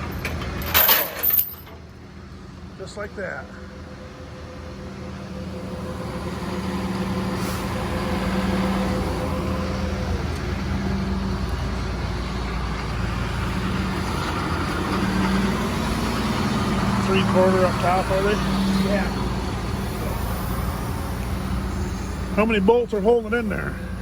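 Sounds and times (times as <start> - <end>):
heavy diesel engine droning: 0.0 - 24.0.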